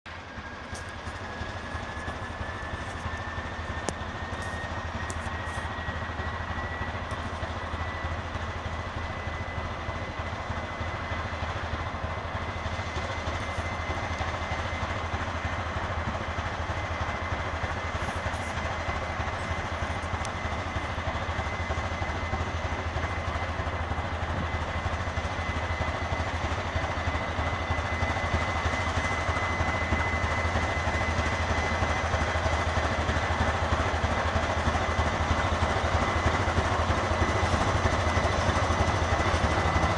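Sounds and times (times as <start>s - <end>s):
diesel locomotive rumbling and whining: 0.0s - 39.9s.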